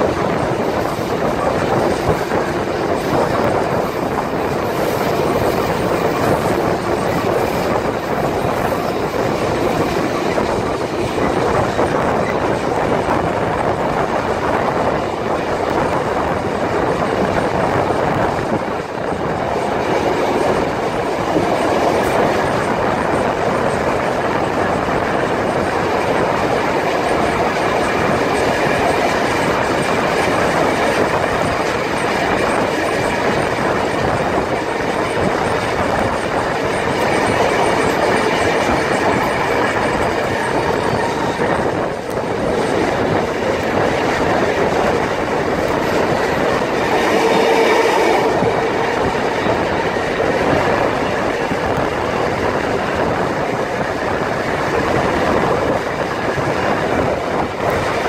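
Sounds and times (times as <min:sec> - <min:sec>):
clickety-clack of rail joints: 0:00.0 - 0:58.0
train wheels rumbling on rails: 0:00.0 - 0:58.0.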